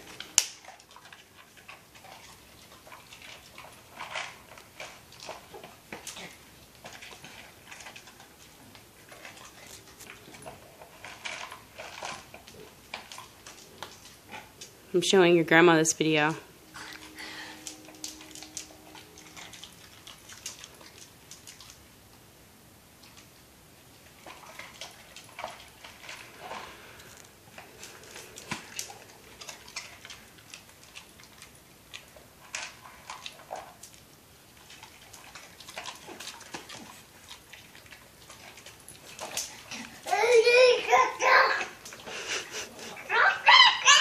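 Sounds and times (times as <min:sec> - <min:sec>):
dog eating from plastic cup: 0:00.0 - 0:14.9, 0:16.4 - 0:22.2, 0:23.0 - 0:44.0.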